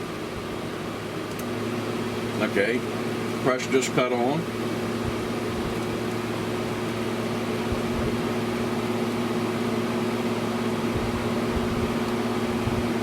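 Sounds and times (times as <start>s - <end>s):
air conditioner humming: 0.0s - 13.0s
fan air noise: 0.0s - 13.0s.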